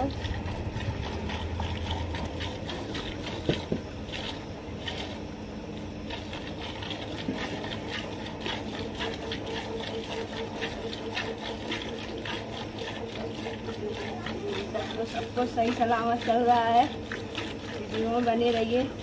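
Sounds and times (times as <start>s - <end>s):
milk squirting into metal bucket: 0.0s - 19.0s.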